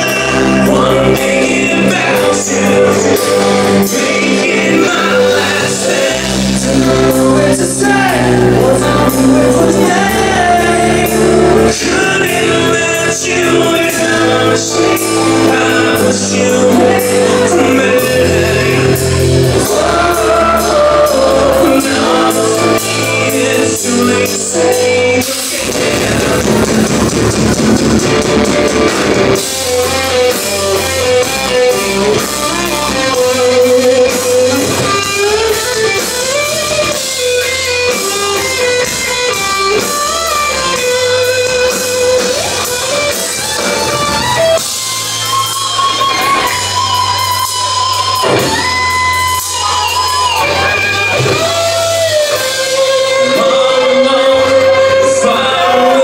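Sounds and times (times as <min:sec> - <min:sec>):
bass guitar: 0:00.0 - 0:56.0
drums: 0:00.0 - 0:56.0
electric guitar lead notes bending: 0:00.0 - 0:56.0.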